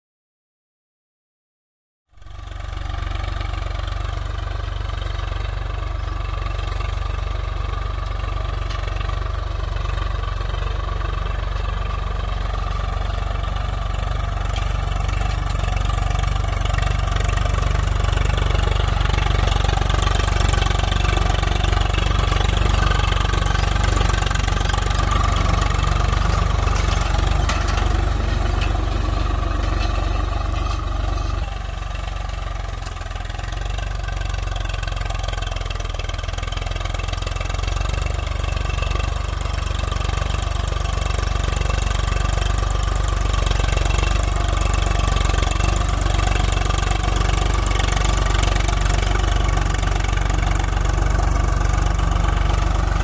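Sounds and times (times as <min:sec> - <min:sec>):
tractor diesel engine running: 0:02.1 - 0:53.0.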